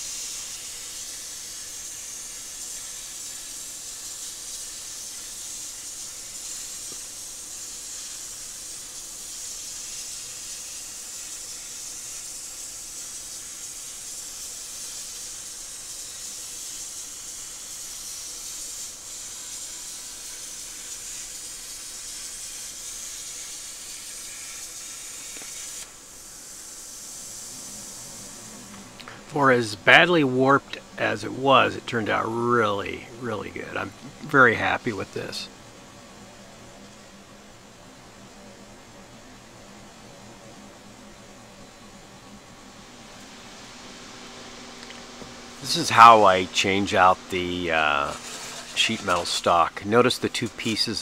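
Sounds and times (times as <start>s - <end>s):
plasma torch hissing: 0.0s - 35.5s, 43.0s - 51.0s.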